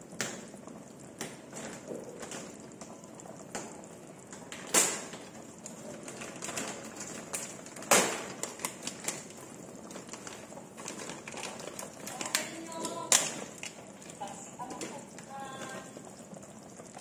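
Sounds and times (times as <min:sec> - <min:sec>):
milk simmering with popping bubbles: 0:00.0 - 0:17.0.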